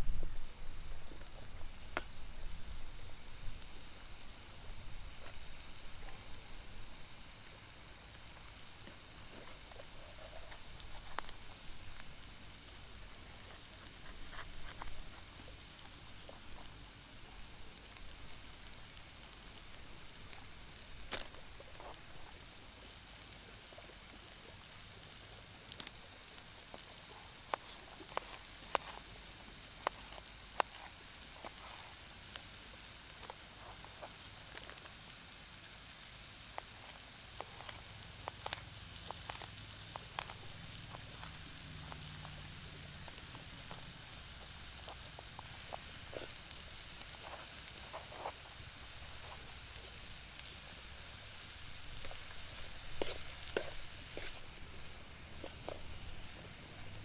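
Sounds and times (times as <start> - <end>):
vegetables sizzling in a pan: 0.0 - 57.0.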